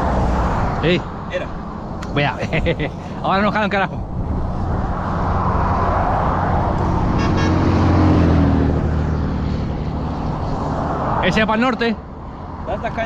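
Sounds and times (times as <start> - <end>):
vehicle engine and road hum: 0.0 - 13.0.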